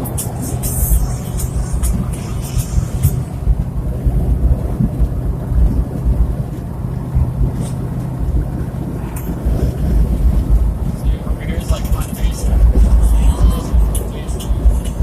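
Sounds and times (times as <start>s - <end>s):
faint engine hum: 0.0s - 15.0s
tyre and wind road noise: 0.0s - 15.0s.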